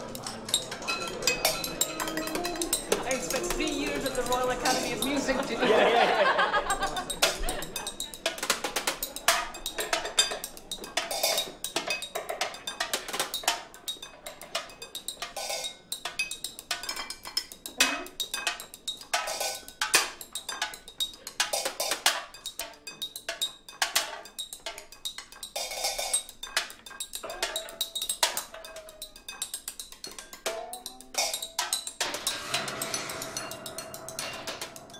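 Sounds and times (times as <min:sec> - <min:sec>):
sticks clinking on glass and plates: 0:00.0 - 0:34.9.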